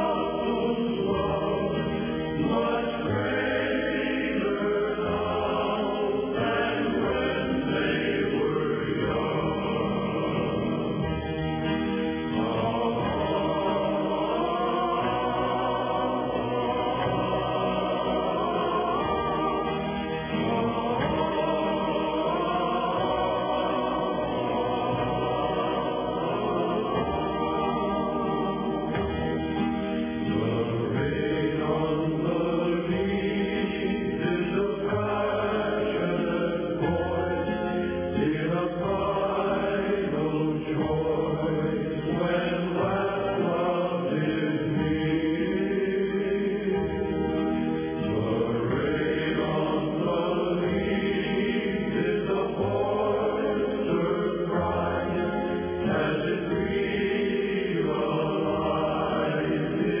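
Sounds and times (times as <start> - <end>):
choir chanting: 0.0 - 60.0.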